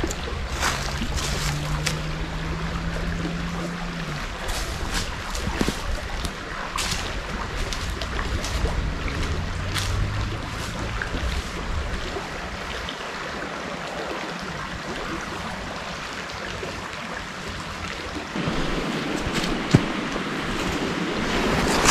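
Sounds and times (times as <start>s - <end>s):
river running over its bed: 0.0s - 21.9s.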